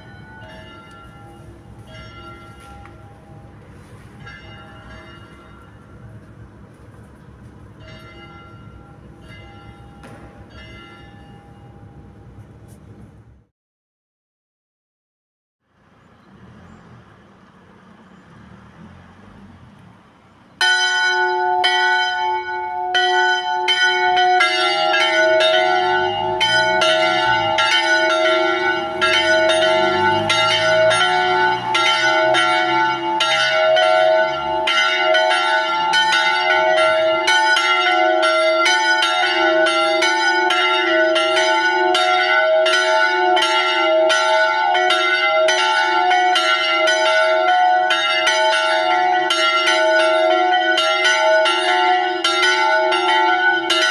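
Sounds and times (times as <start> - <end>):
small church bells ringing: 0.0 - 12.4, 20.6 - 53.9.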